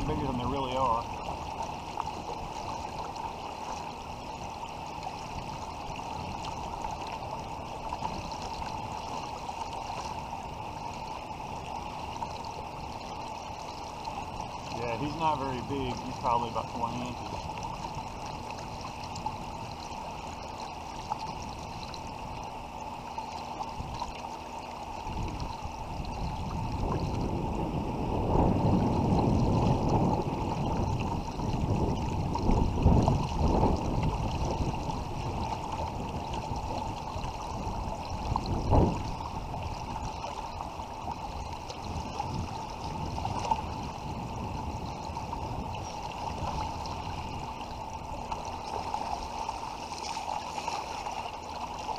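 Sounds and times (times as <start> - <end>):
river current rushing and gurgling: 0.0 - 51.9.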